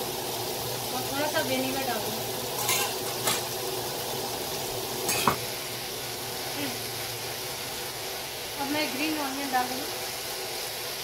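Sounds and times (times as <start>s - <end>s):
vegetables sizzling in wok: 0.0s - 11.0s.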